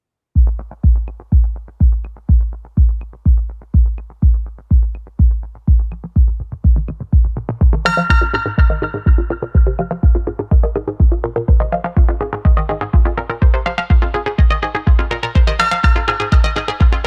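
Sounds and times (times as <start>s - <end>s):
electronic dance music: 0.4s - 17.0s
heavy kick drum: 0.4s - 17.0s
synth chords: 0.4s - 17.0s.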